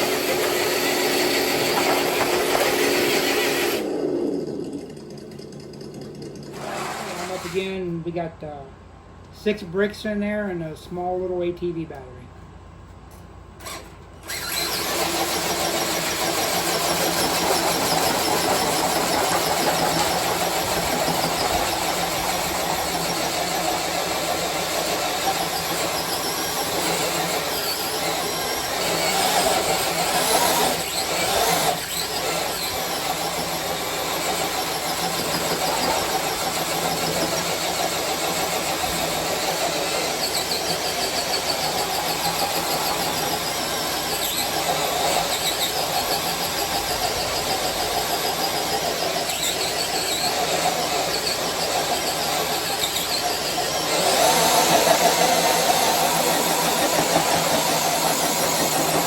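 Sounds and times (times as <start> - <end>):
toy truck motor under load: 0.0 - 7.7, 13.6 - 59.0.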